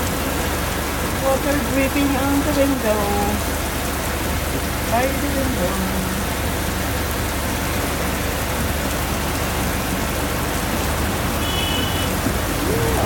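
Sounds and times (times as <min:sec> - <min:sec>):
heavy rain on vehicle: 0:00.0 - 0:13.0
vehicle rumble: 0:00.0 - 0:13.0.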